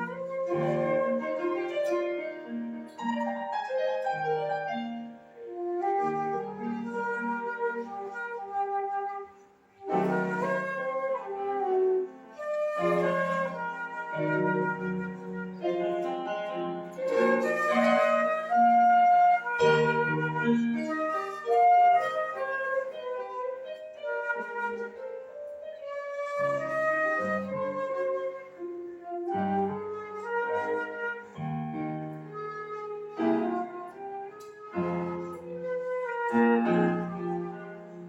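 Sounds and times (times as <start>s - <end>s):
flute playing slow melody: 0.0s - 38.0s
piano chords: 0.0s - 38.0s.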